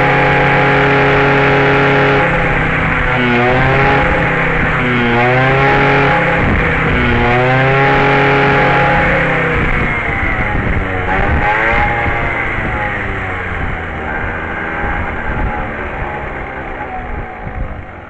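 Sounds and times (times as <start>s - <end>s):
scooter engine revving: 0.0s - 18.0s.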